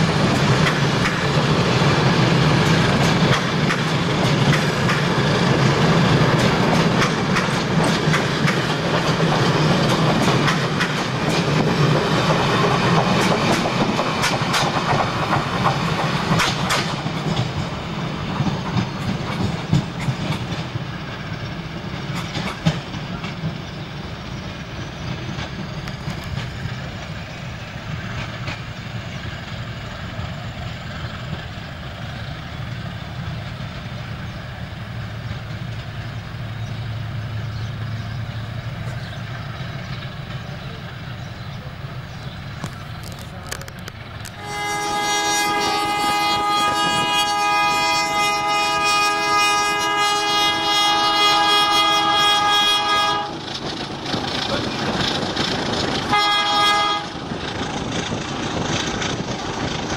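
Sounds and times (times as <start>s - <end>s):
diesel locomotive engine running: 0.0s - 59.9s
train wheels clicking over rail joints: 0.0s - 59.9s.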